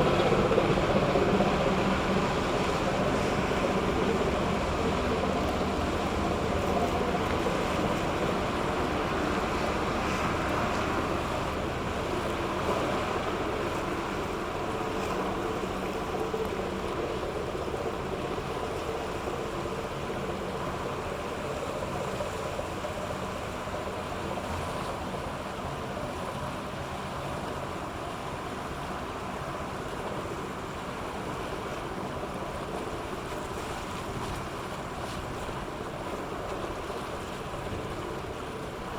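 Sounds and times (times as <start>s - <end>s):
rushing water: 0.0s - 38.9s
ship engine drone: 0.0s - 38.9s.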